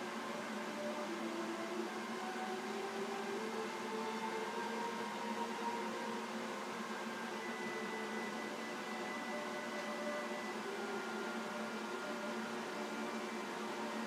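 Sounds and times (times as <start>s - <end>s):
room hiss and hum: 0.0s - 14.0s.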